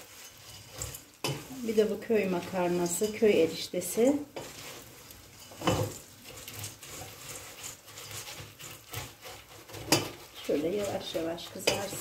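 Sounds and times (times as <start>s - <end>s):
noodles frying in oil: 0.0s - 12.0s
wooden spoon stirring noodles in pot: 0.0s - 12.0s.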